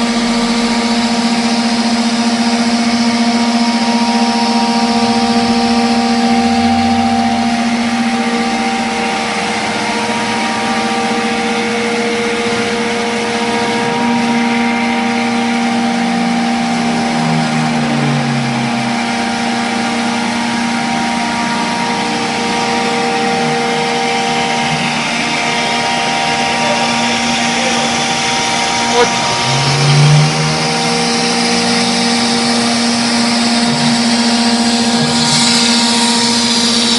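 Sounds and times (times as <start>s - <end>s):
router spindle whine: 0.0s - 36.9s.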